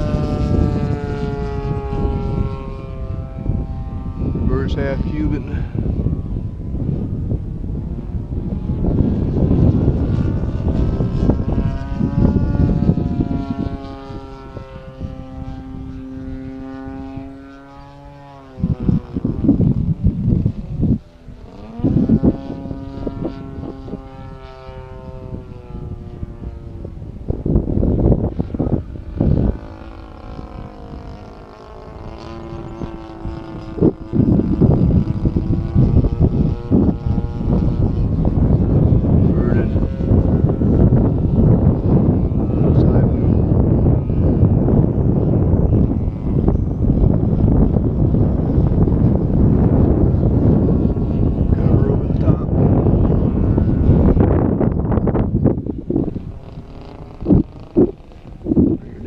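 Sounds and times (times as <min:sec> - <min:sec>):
model plane engine in flight: 0:00.0 - 0:59.0
wind rumble on microphone: 0:00.0 - 0:59.0.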